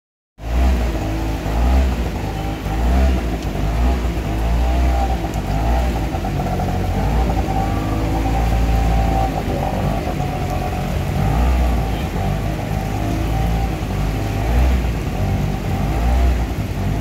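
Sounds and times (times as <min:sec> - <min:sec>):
heavy rain and water hiss: 0:00.4 - 0:17.0.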